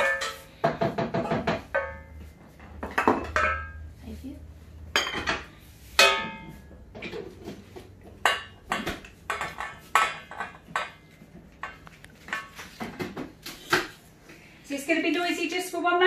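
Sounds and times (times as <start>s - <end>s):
dishes and pans clinking: 0.0s - 3.9s, 4.9s - 13.9s.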